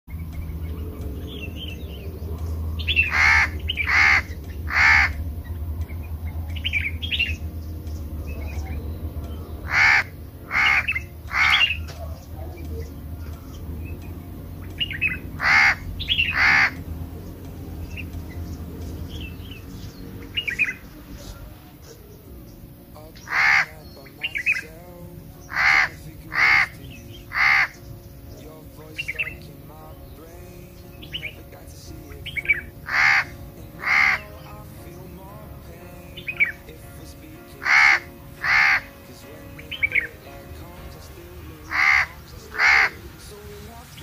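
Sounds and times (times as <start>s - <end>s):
birds harsh calls: 0.1s - 44.0s
soft bird chirps: 0.1s - 44.0s.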